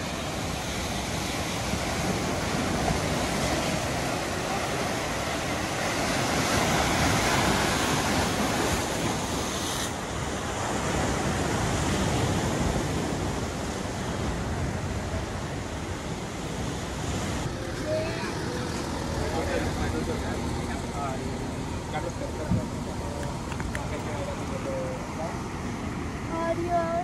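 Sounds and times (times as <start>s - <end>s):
surf washing over rocks: 0.0s - 27.0s.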